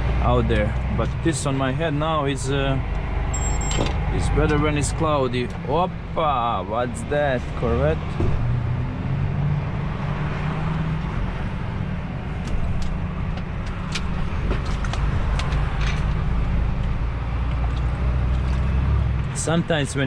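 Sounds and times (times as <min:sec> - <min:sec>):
diesel truck engine drone: 0:00.0 - 0:20.0
road noise: 0:00.0 - 0:20.0.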